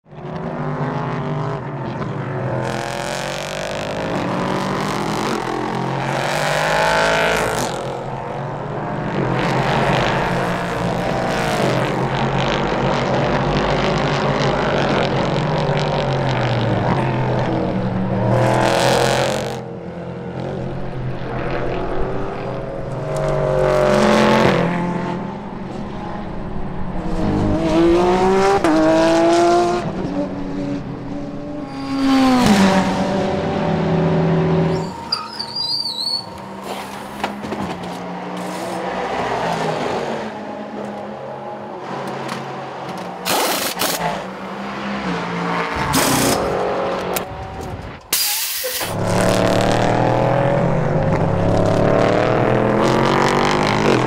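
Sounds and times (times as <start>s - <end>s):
racing cars passing at speed: 0.1s - 48.2s, 48.8s - 54.0s.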